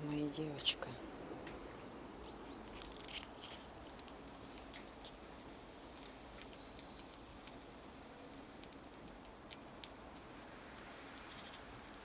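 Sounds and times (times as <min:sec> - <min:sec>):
steady low hiss: 0:00.0 - 0:12.0
squirrel gnawing a nut: 0:01.4 - 0:12.0.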